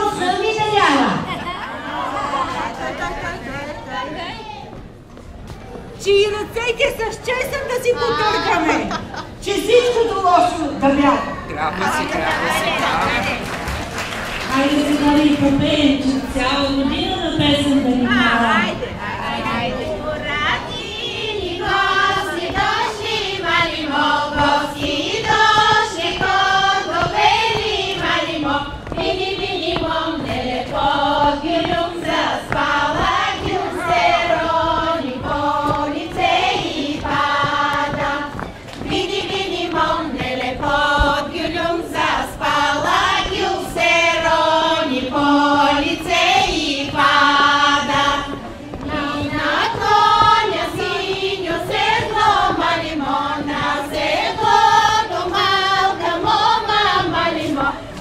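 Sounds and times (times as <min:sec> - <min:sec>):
women's choir singing unaccompanied: 0:00.0 - 0:04.2, 0:06.1 - 0:58.0.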